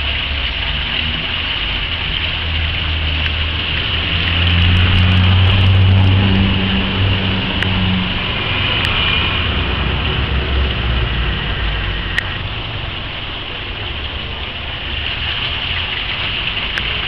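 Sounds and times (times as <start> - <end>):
water splashing from pipe: 0.0 - 17.0
low rumble: 2.1 - 16.8.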